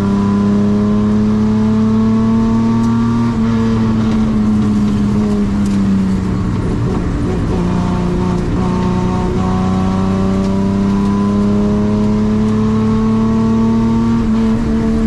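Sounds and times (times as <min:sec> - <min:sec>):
racing car engine running hard: 0:00.0 - 0:15.0.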